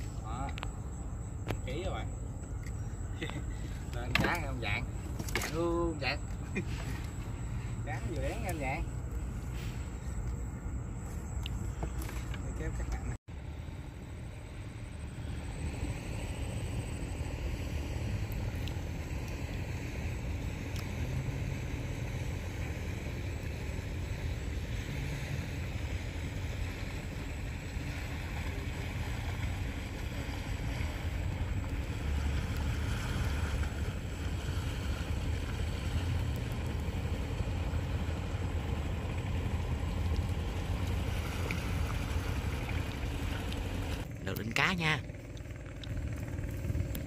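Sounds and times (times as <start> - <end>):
outboard motor droning: 0.0 - 47.0.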